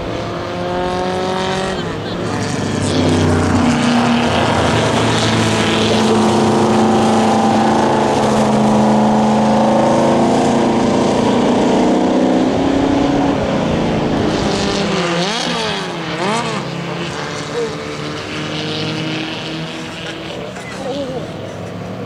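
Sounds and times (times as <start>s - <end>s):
racing car engines: 0.0s - 22.0s.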